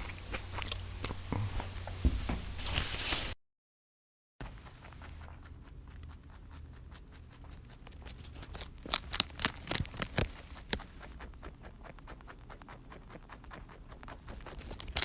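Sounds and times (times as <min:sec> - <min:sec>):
chewing crunchy food: 0:00.0 - 0:02.6, 0:04.6 - 0:15.0.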